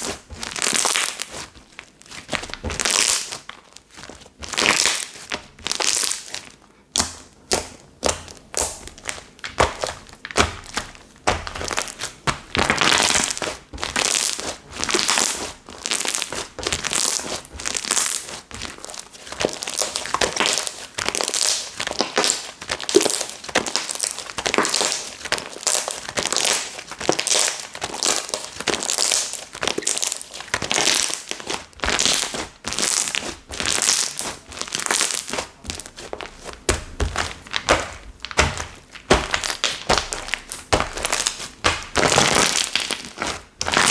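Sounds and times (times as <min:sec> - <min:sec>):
slime squished by hand: 0:00.0 - 0:43.9.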